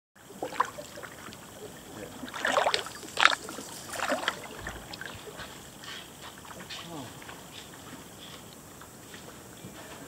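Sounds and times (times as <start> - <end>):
water dripping off paddle: 0.2 - 9.0
canoe paddle splashing: 0.2 - 9.6.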